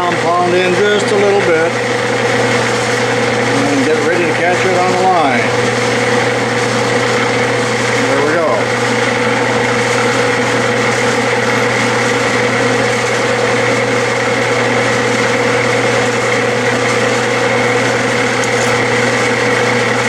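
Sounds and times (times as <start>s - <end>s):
metal lathe running: 0.0s - 20.0s
motor whine: 0.0s - 20.0s.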